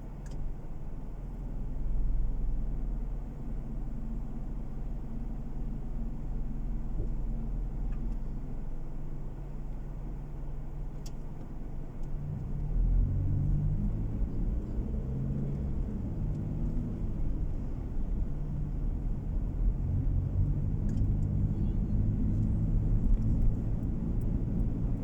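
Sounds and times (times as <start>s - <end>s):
car cabin road and engine rumble: 0.0s - 25.0s.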